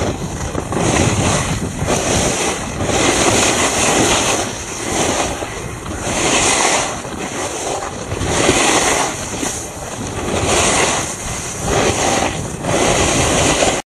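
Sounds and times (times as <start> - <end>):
sliding on slushy snow: 0.0 - 13.8
wind on camera microphone: 0.0 - 13.8.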